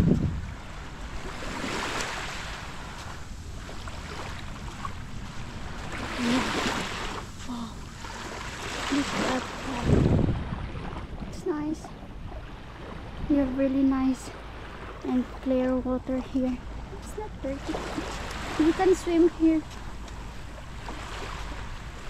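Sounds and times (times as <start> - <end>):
small waves washing on beach: 0.0 - 22.0
wind rumbling on microphone: 0.0 - 22.0.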